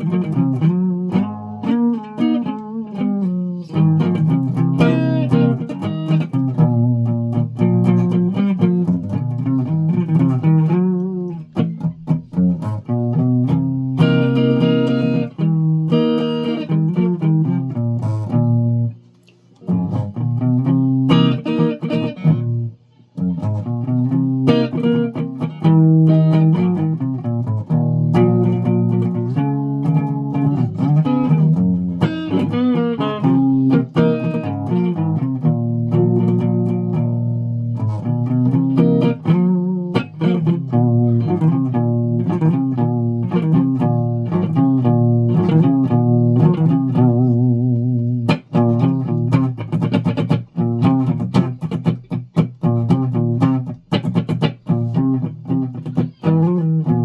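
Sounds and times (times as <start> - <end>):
plucked string instrument: 0.0 - 57.0.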